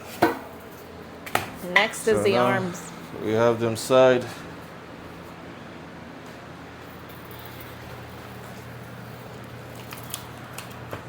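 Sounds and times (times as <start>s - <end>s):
low background hum and hiss: 0.0s - 11.0s.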